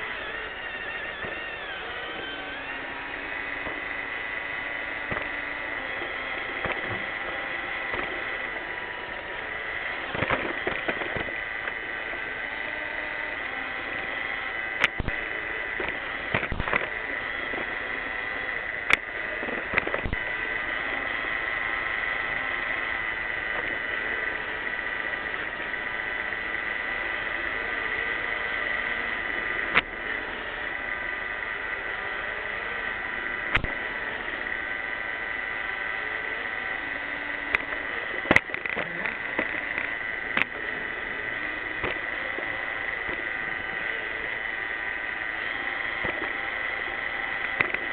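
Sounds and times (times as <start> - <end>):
robot vacuum running: 0.0 - 47.9.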